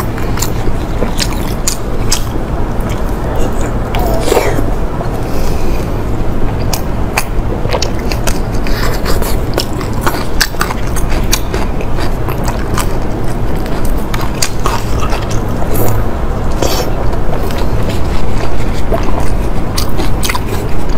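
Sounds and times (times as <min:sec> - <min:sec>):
biting and chewing: 0:00.0 - 0:20.9
steady low hum: 0:00.0 - 0:20.9.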